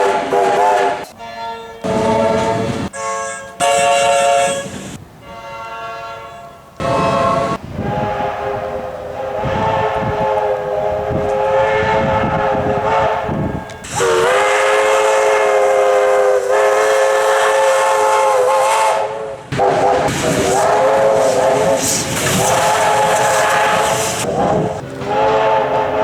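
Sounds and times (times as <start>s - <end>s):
train horn blasts: 0.0s - 26.0s.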